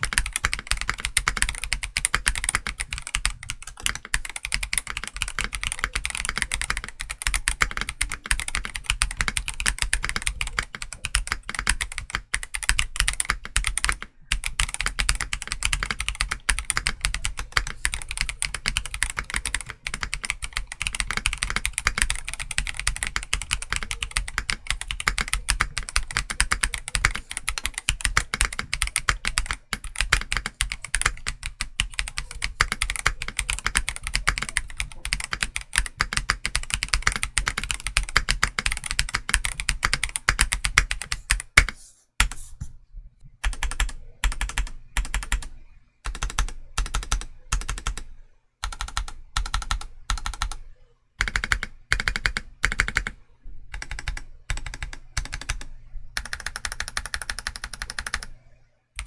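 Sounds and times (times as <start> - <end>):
fast typing on mechanical keyboard: 0.0 - 42.4, 43.4 - 50.6, 51.2 - 58.4.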